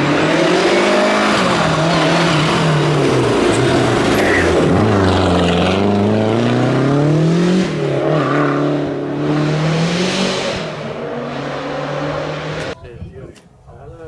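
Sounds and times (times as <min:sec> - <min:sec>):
rally car engine revving: 0:00.0 - 0:12.8.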